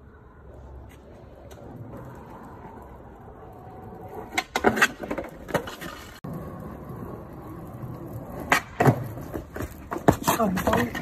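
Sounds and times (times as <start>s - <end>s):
skateboard wheels rolling on pavement: 0.0s - 11.0s
skateboard clacking on ground: 0.7s - 11.0s.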